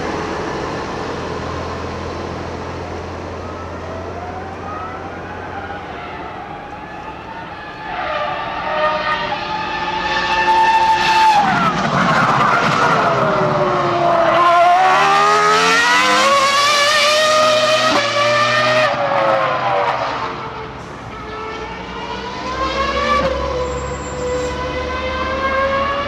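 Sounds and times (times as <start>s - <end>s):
racing car engine at high revs: 0.0s - 26.0s.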